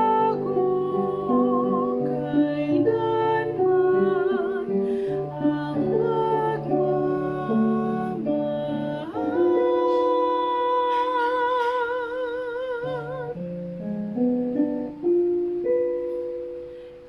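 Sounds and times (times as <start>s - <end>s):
woman singing with vibrato: 0.0s - 13.9s
musical accompaniment: 0.0s - 17.0s.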